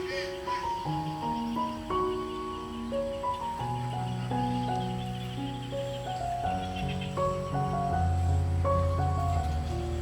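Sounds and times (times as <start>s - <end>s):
gentle background melody: 0.0s - 10.0s.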